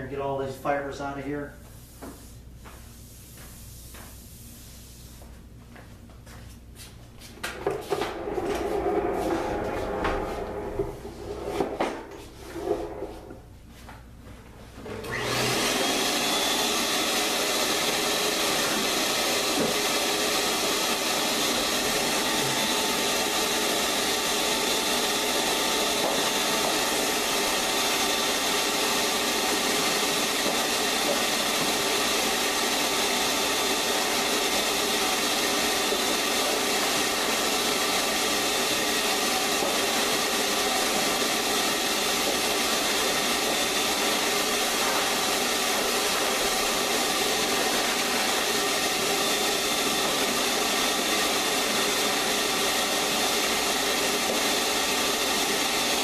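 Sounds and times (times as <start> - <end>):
vacuum cleaner running: 7.2 - 13.6, 14.7 - 56.0.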